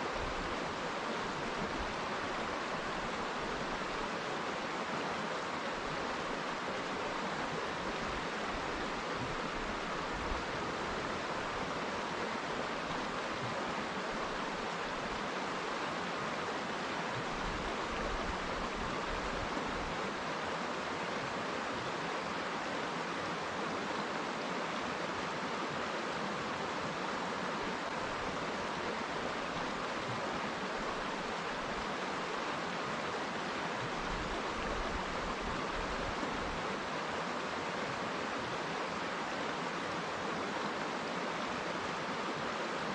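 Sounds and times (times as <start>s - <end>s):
river water flowing over rocks: 0.0s - 42.9s.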